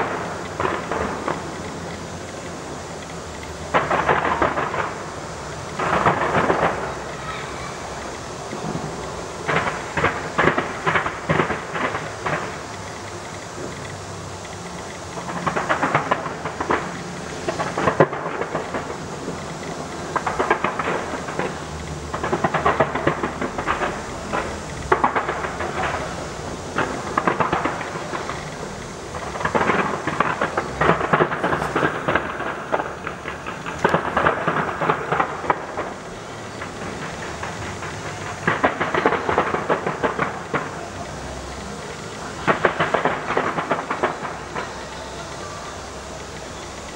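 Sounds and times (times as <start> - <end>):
continuous rumble: 0.0 - 46.9
fireworks crackling and popping: 0.0 - 46.9.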